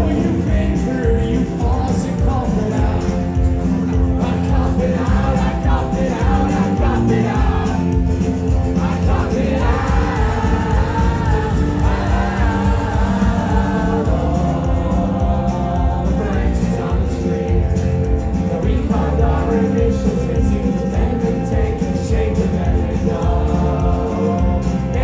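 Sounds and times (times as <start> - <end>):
live rock band playing: 0.0 - 25.0
sung vocals: 0.0 - 25.0.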